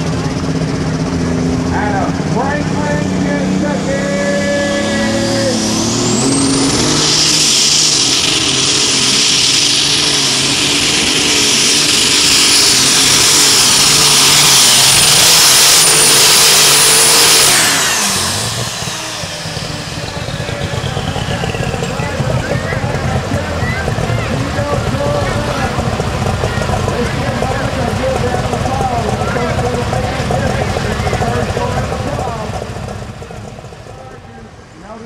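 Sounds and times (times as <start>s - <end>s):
tractor engine at full throttle: 0.0s - 35.0s
turbocharger whine: 0.0s - 35.0s.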